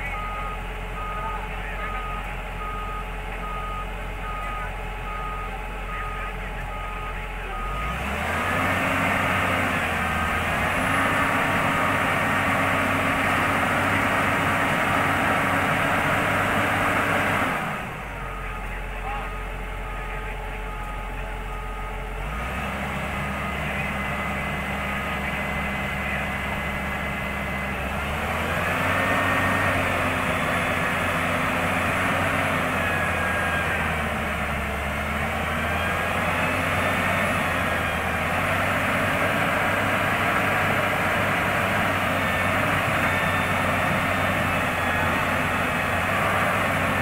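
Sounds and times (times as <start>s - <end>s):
excavator diesel engine under load: 0.0s - 47.0s.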